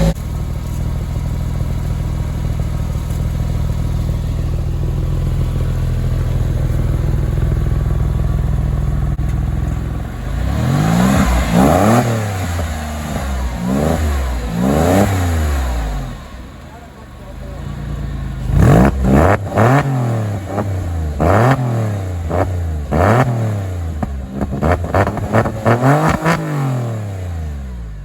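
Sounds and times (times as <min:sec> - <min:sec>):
car engine idling: 0:00.0 - 0:28.0
car engine revving: 0:00.0 - 0:28.0.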